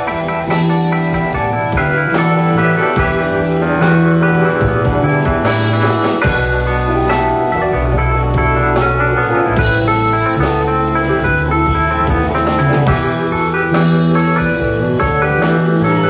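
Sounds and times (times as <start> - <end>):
bass line: 0.0 - 16.0
drum kit: 0.0 - 16.0
electric guitars: 0.0 - 16.0
stage keyboard: 0.0 - 16.0.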